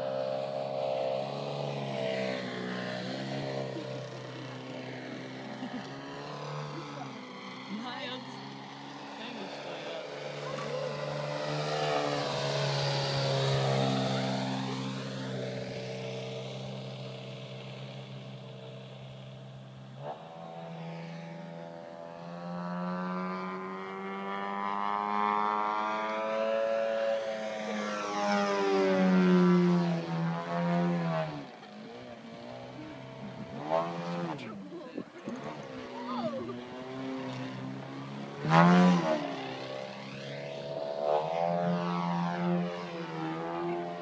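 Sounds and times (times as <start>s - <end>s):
model plane engine and propeller: 0.0s - 44.0s.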